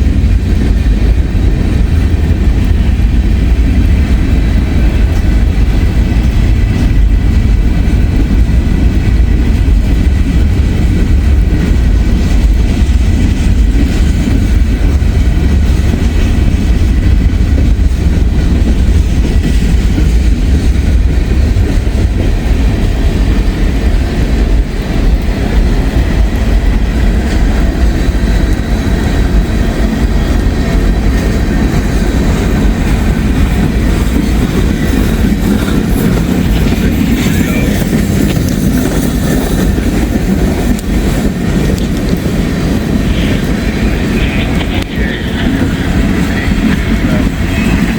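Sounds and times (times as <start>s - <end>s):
freight train wheels rumbling on rails: 0.0s - 47.9s.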